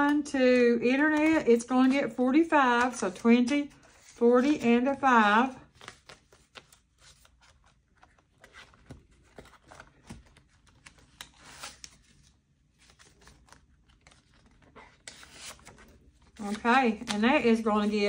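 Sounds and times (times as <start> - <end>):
banknotes rustling and clicking: 0.0 - 18.0.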